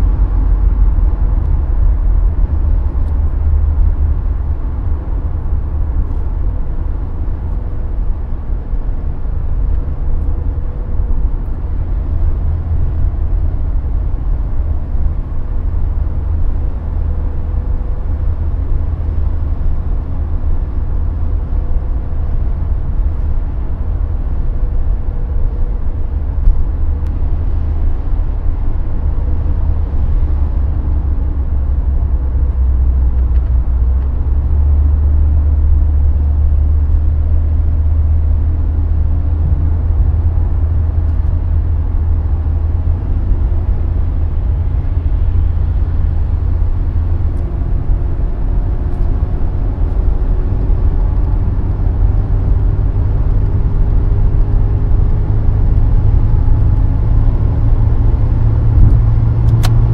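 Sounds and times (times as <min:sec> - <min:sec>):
car engine droning: 0:00.0 - 0:59.9
road and wind noise: 0:00.0 - 0:59.9.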